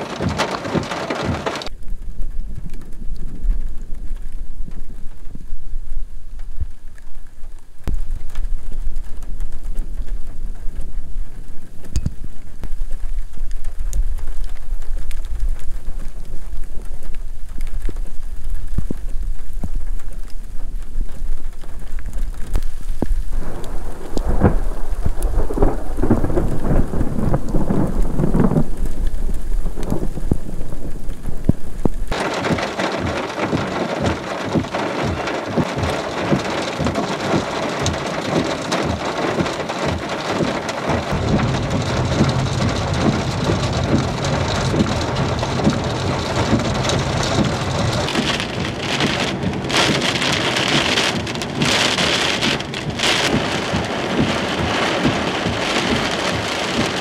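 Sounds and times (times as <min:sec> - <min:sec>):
heavy rain pouring: 0:00.0 - 0:57.0
thunder rumbling: 0:00.0 - 0:57.0.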